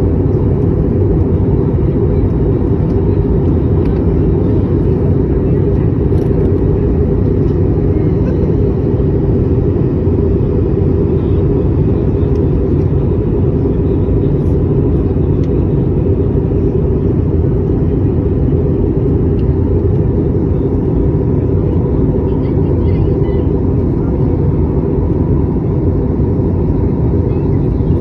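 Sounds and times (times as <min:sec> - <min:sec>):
airliner cabin rumble: 0:00.0 - 0:28.0.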